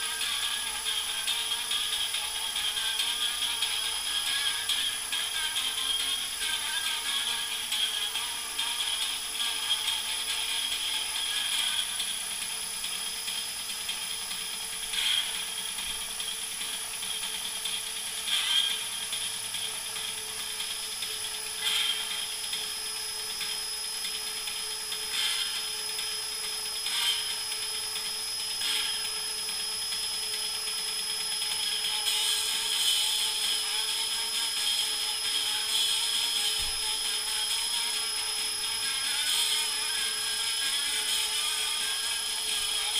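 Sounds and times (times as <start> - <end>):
cordless drill motor whining: 0.0 - 42.9.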